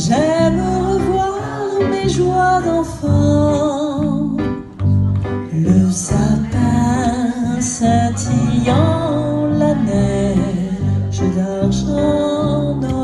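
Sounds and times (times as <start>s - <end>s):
woman singing into a microphone: 0.0s - 4.7s, 5.4s - 13.0s
electric bass guitar: 0.0s - 13.0s
keyboard: 0.0s - 13.0s.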